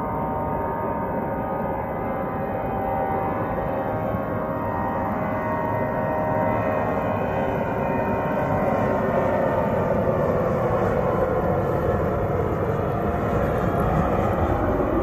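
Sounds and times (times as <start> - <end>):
high jet engine whine: 0.0 - 15.0
jet engines rumbling: 0.0 - 15.0.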